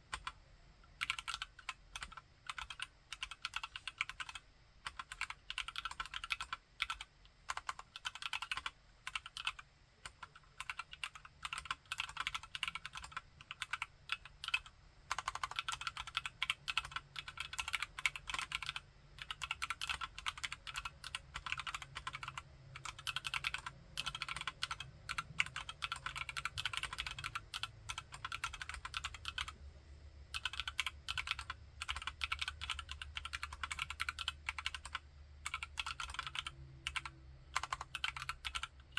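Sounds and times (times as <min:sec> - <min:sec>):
mechanical keyboard typing: 0:00.1 - 0:00.4, 0:01.0 - 0:29.6, 0:30.3 - 0:38.9.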